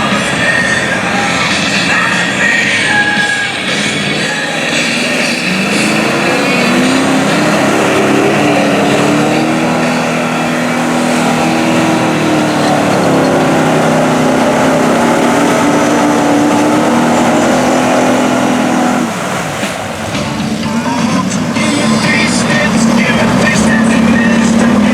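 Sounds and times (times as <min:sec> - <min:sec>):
truck engine revving: 0:00.0 - 0:24.9.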